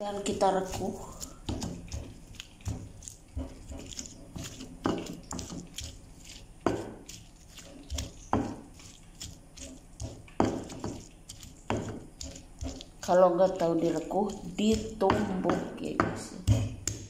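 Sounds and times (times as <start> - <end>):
stone pestle pounding in mortar: 0.1 - 17.0.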